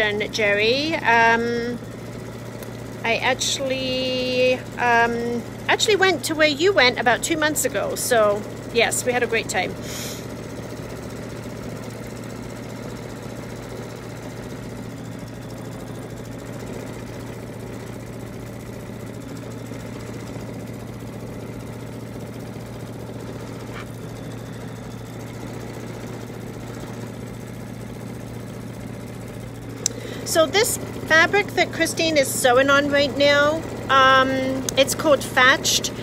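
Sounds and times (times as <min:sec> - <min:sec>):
embroidery machine humming: 0:00.0 - 0:36.0.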